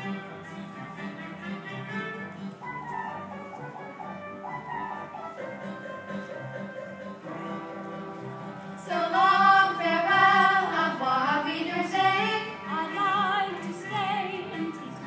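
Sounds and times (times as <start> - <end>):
musical instrumental accompaniment: 0.0 - 15.0.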